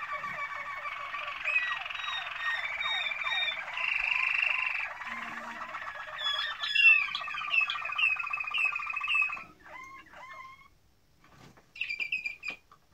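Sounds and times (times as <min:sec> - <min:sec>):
canaries singing: 0:00.0 - 0:10.8, 0:11.7 - 0:12.6.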